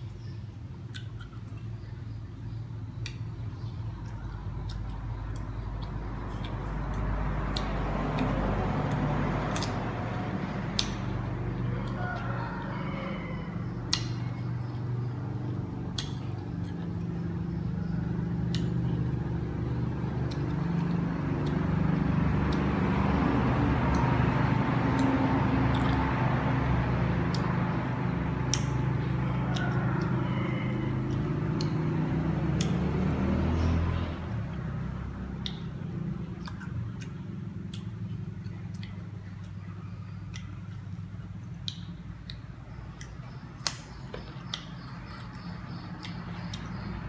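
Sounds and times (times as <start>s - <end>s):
crunching of plums being chewed: 0.8s - 2.0s, 3.0s - 12.4s, 13.8s - 33.5s, 35.3s - 47.0s.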